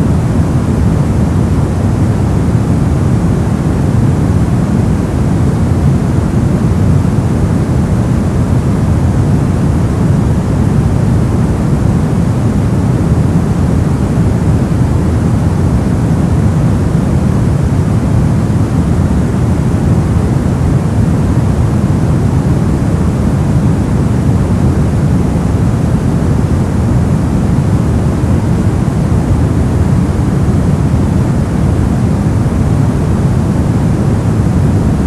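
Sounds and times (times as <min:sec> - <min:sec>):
deep rumbling brown noise: 0:00.0 - 0:35.0.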